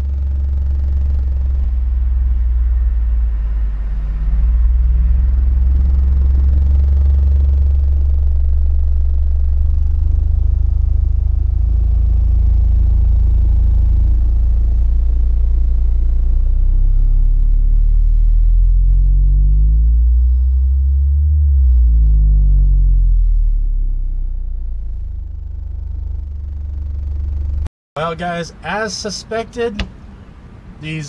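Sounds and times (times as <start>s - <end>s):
deep bass test tone: 0.0s - 27.7s.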